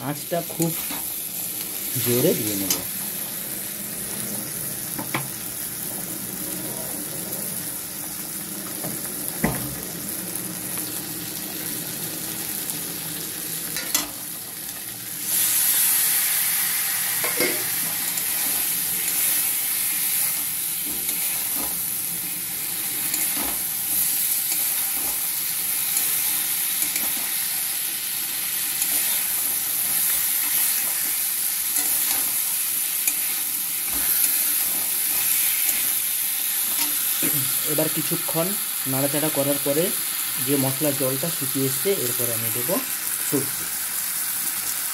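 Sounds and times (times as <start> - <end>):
fish frying and sizzling in a pan: 0.0 - 44.9.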